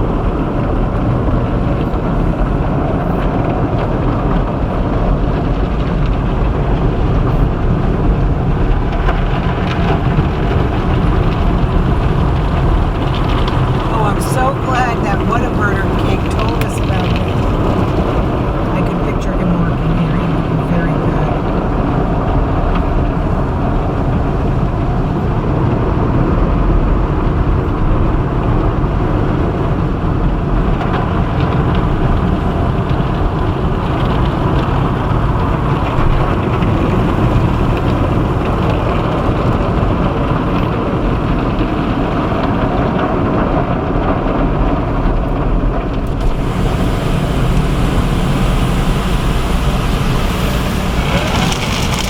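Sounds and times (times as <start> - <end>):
car wash water and machinery: 0.0 - 52.0.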